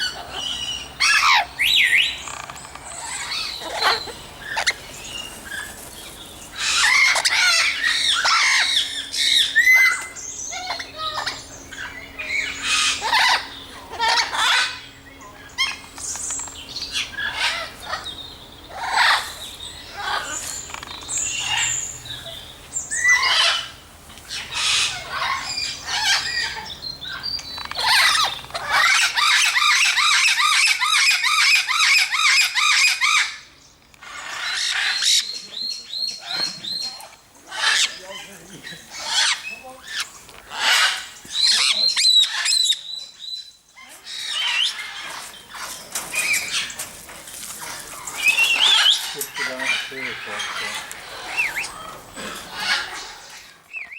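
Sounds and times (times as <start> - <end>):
birds calling and squawking: 0.0 - 53.9
many birds twittering: 0.0 - 53.9.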